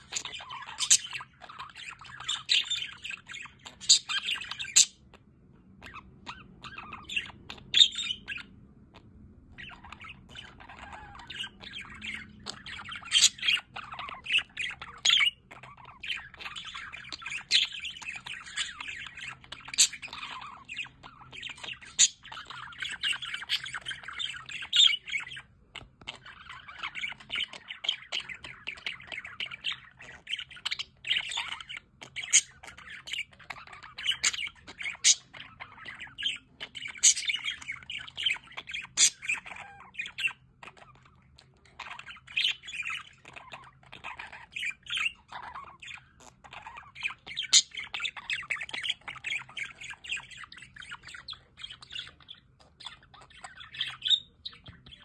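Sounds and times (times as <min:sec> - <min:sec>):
bird squawks and chirps: 0:00.0 - 0:55.0
budgerigars chattering: 0:00.0 - 0:55.0.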